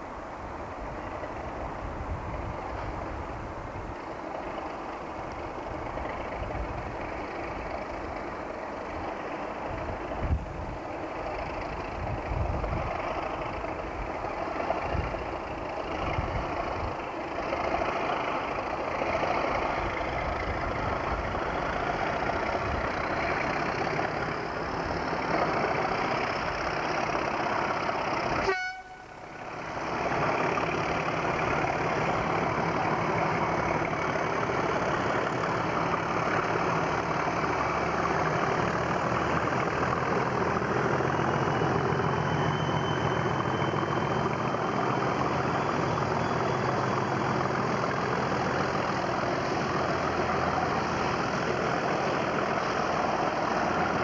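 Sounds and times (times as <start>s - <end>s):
diesel engine idling close by: 0.0s - 54.0s
diesel locomotives under power: 0.0s - 54.0s.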